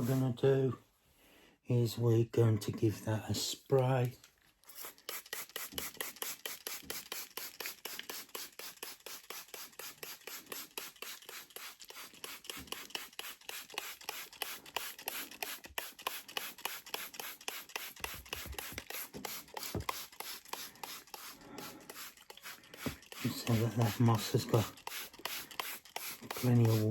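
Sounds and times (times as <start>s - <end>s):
spray bottle squirting water: 4.6s - 26.9s.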